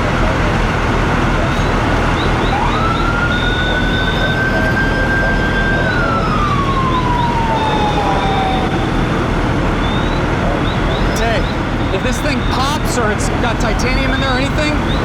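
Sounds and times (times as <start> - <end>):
low rumble of engines: 0.0 - 15.0
siren wailing: 1.4 - 15.0.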